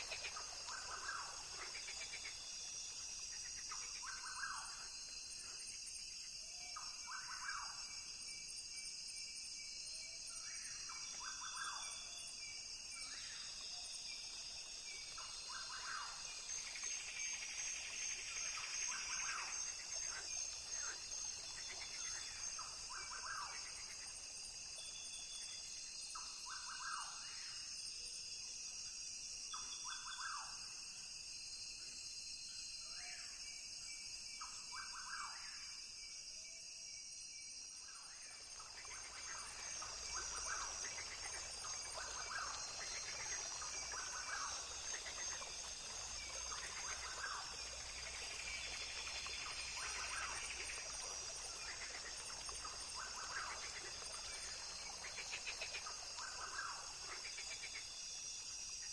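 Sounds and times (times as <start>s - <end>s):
insect chorus: 0.0s - 58.9s.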